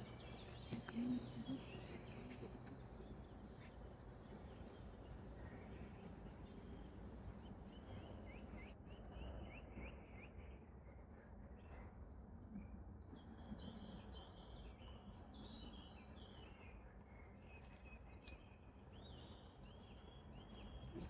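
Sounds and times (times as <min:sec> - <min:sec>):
small birds chirping: 0:00.0 - 0:10.4, 0:13.0 - 0:21.0
low background noise: 0:00.0 - 0:21.0.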